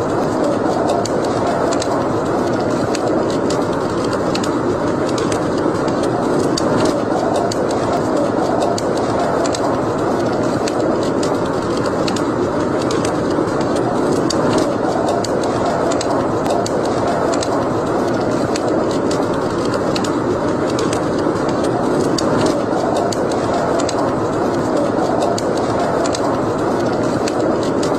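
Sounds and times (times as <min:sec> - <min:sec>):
fire crackling and popping: 0:00.0 - 0:27.9
flames rushing: 0:00.0 - 0:27.9.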